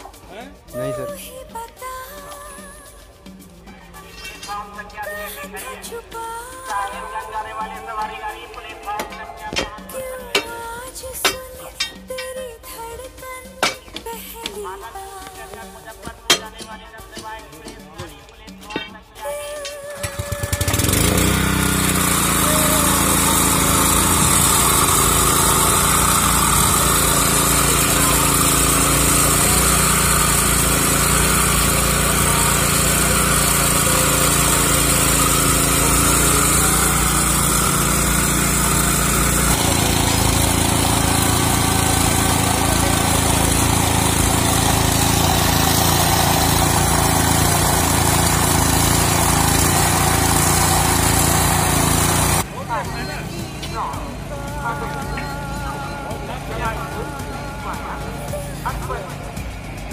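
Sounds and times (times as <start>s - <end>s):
abrasive rail cutter grinding steel: 0.0s - 14.7s, 15.4s - 16.8s, 17.5s - 59.9s.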